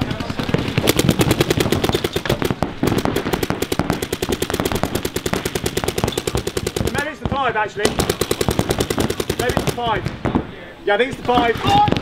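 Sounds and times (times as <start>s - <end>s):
paintball markers firing rapidly: 0.0s - 10.0s.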